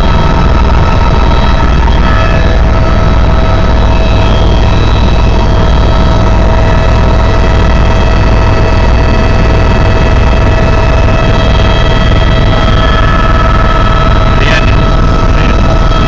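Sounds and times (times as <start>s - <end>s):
helicopter turbine whine: 0.0s - 16.0s.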